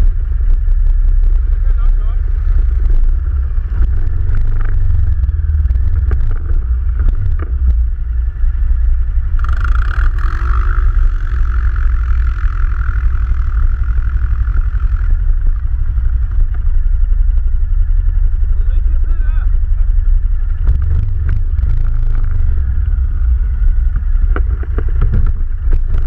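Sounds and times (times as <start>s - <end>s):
atv engine rumbling: 0.0s - 26.0s.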